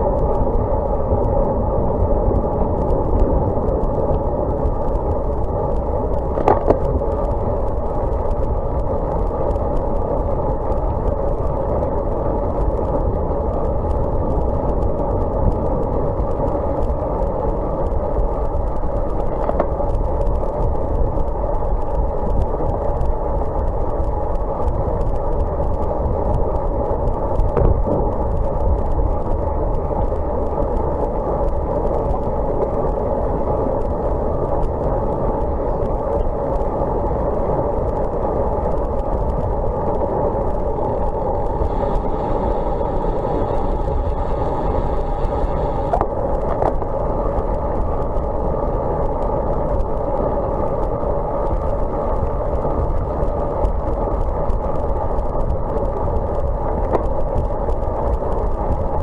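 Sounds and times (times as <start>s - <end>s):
bike tyres rolling on wet tarmac: 0.0s - 59.0s
wind rushing over microphone: 0.0s - 59.0s.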